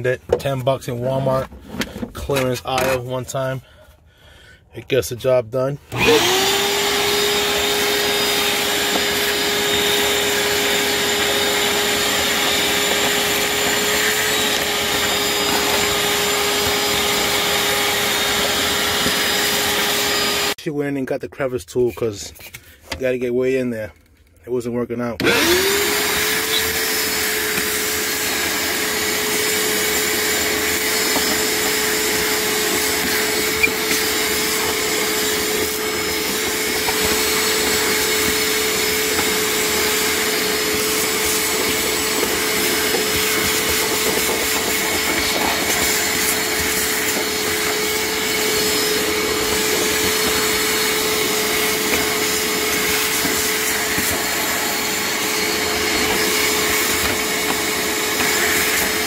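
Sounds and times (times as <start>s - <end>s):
shop vac motor whine: 5.9s - 20.6s, 25.2s - 59.0s.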